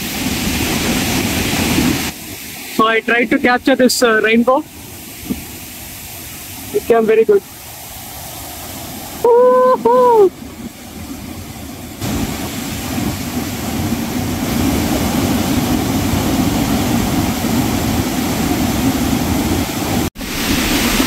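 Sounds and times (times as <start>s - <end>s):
water rushing through spillway: 0.0s - 21.0s.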